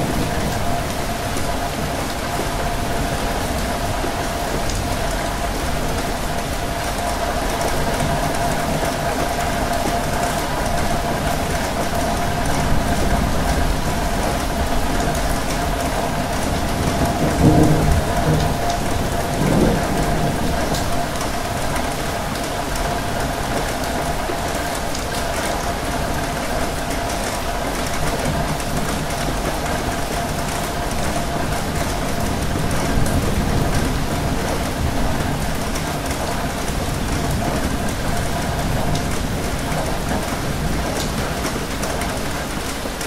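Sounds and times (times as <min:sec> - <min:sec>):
heavy rain on hard surface: 0:00.0 - 0:43.0.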